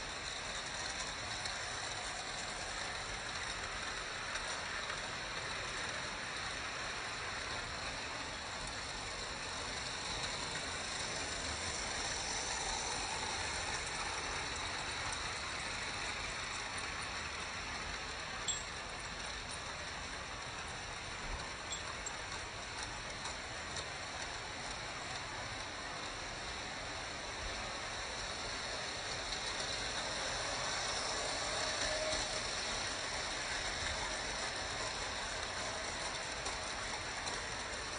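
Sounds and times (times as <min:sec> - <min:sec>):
model train wheels rattling: 0:00.0 - 0:37.9.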